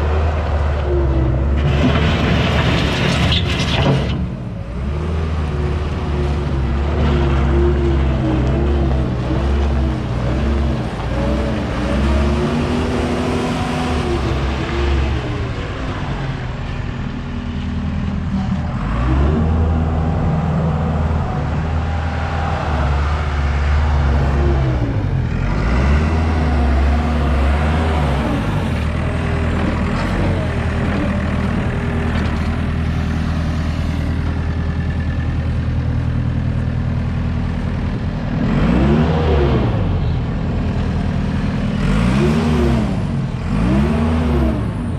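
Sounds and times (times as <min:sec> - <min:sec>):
skid steer engine running: 0:00.0 - 0:44.9.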